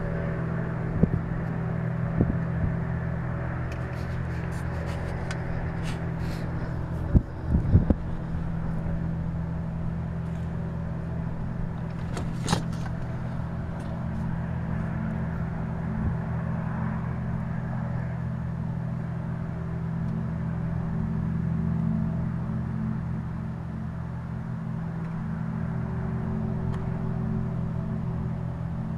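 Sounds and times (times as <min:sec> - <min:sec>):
low industrial hum: 0:00.0 - 0:28.9.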